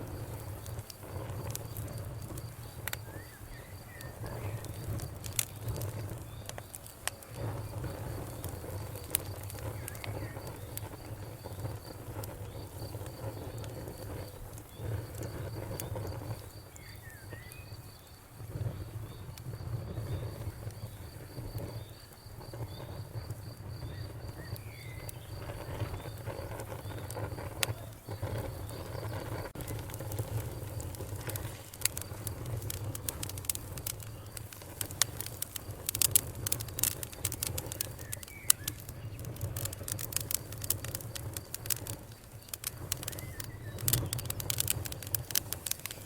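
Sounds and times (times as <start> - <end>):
insects trilling: 0.0 - 46.0
wood fire crackling: 0.0 - 46.0.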